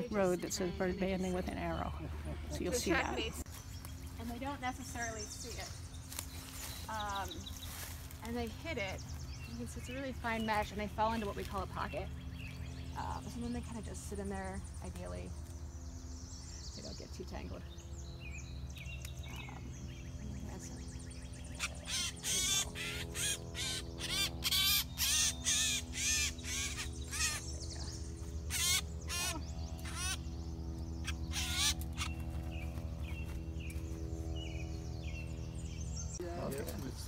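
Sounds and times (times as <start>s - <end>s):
bird harsh calls: 0.0s - 36.2s.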